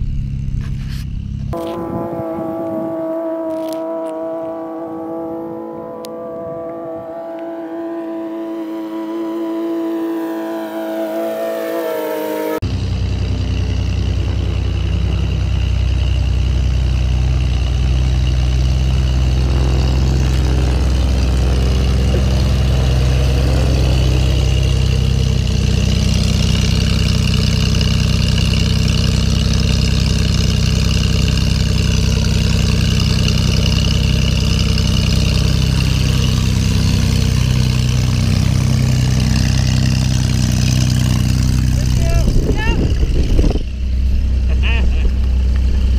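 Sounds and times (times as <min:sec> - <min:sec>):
plane engine running close by: 0:00.0 - 0:45.9
propeller aircraft engine: 0:00.0 - 0:45.9.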